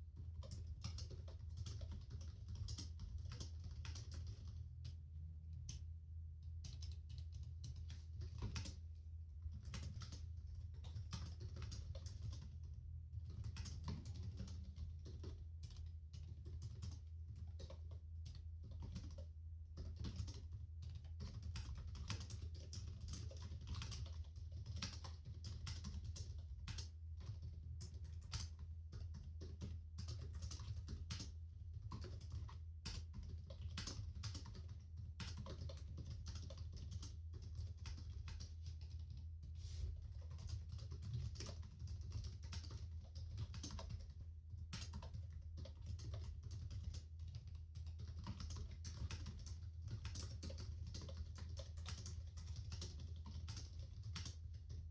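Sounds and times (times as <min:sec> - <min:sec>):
typing on computer keyboard: 0:00.1 - 0:05.0, 0:06.6 - 0:08.8, 0:09.5 - 0:54.9.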